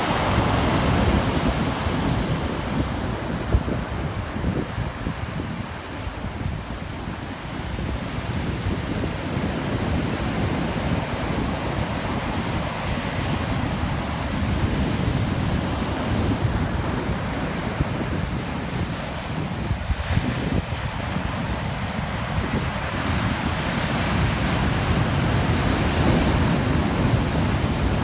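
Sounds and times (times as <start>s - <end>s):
heavy surf breaking waves: 0.0s - 28.0s
wind buffeting microphone: 0.0s - 28.0s.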